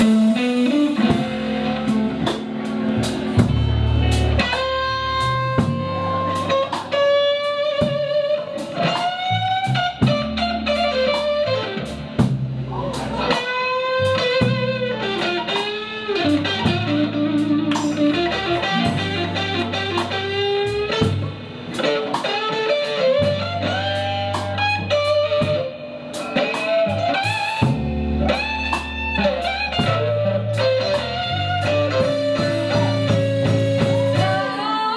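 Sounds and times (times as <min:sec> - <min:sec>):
bass guitar: 0:00.0 - 0:34.9
drum kit beat: 0:00.0 - 0:34.9
electric guitar lead: 0:00.0 - 0:34.9.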